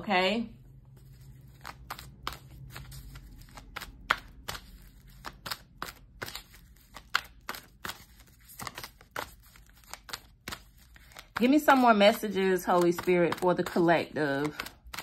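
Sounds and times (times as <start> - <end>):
cards being shuffled by hand: 0.8 - 15.0.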